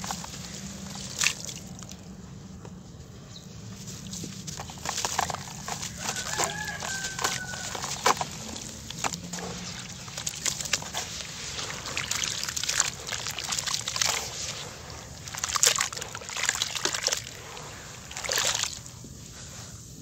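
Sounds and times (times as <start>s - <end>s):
hands sloshing wet sand in water: 0.0s - 2.1s, 4.0s - 19.8s.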